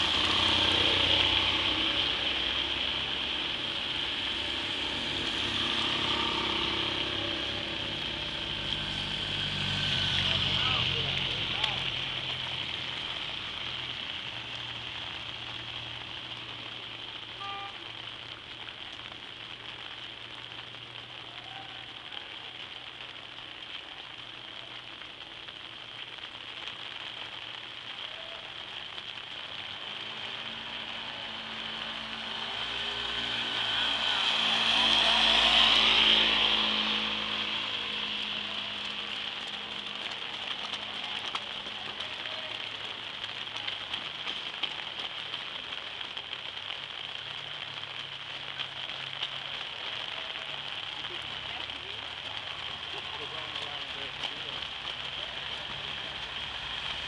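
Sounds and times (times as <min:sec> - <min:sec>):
rain hissing on wet street: 0:00.0 - 0:57.0
vehicle passing on wet road: 0:00.0 - 0:57.0.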